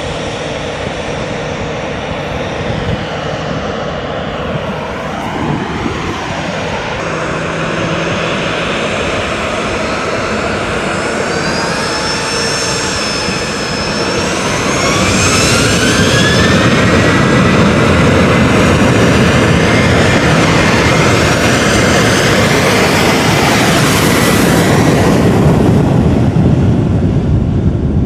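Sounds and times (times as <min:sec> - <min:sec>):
aircraft turbine engine whine: 0:00.0 - 0:28.0.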